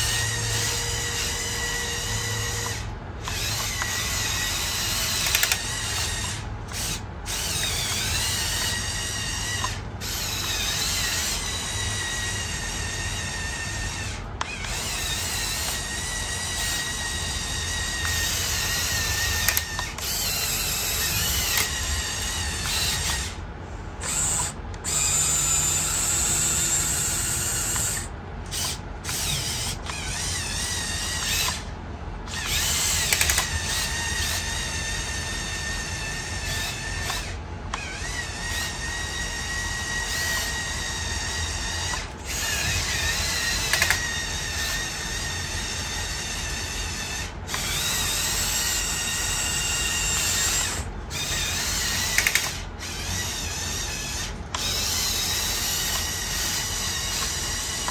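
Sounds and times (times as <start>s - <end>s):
toy electric motor whirring: 0.0s - 57.9s.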